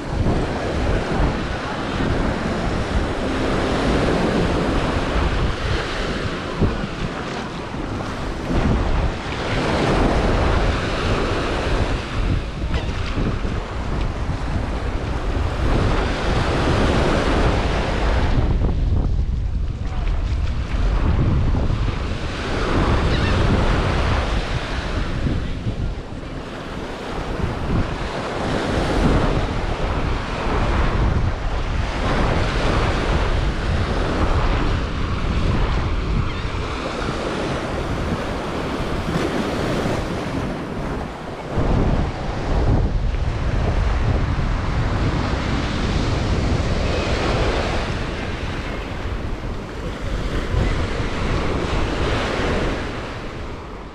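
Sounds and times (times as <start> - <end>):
surf washing onto beach: 0.0 - 53.9
wind buffeting microphone: 0.0 - 53.9.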